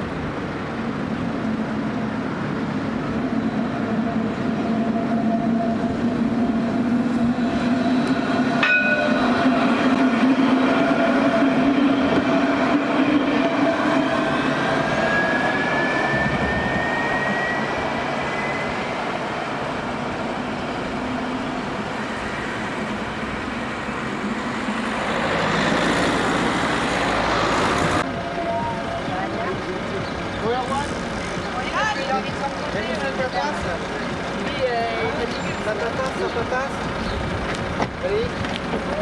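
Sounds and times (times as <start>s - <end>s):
tram motors whining: 0.0s - 39.0s.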